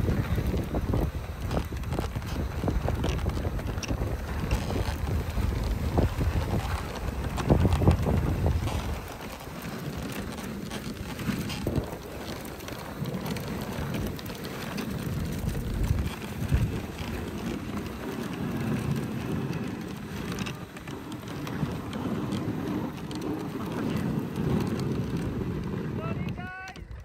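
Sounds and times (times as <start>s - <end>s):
sled runners hissing over snow: 0.0s - 26.5s
wind on microphone: 0.0s - 27.0s.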